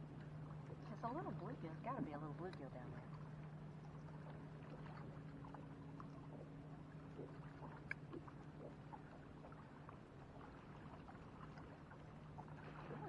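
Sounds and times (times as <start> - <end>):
faint steady hum: 0.0 - 13.0
water lapping against kayak hull: 0.0 - 13.0.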